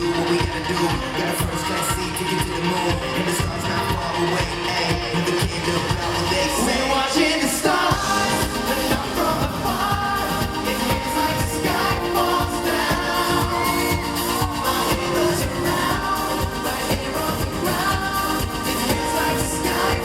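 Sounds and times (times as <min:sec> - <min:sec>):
electronic dance-pop backing: 0:00.0 - 0:20.0
person singing: 0:00.0 - 0:20.0.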